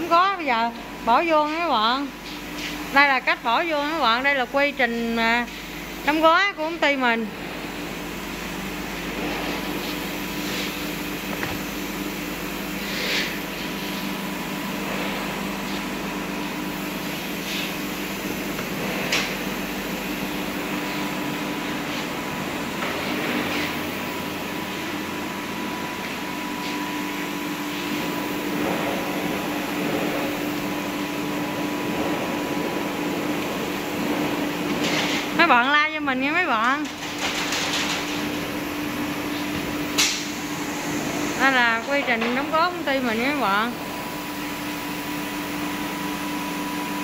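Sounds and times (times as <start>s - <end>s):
packaging machinery humming: 0.0s - 47.0s.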